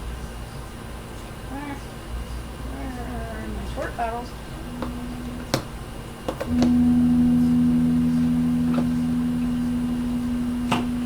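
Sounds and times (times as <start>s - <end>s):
appliance electric hum: 0.0s - 11.0s.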